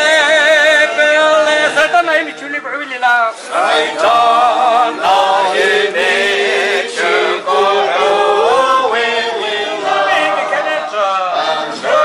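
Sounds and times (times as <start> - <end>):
congregation singing a hymn: 0.0 - 2.3, 3.4 - 12.0.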